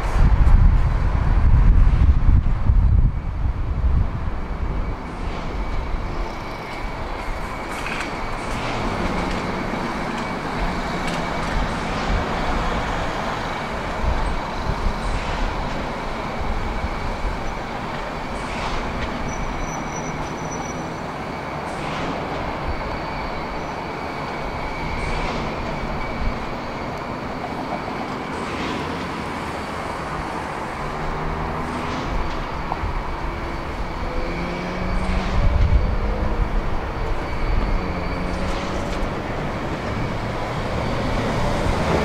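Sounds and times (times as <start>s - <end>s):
city street traffic: 0.0s - 42.0s.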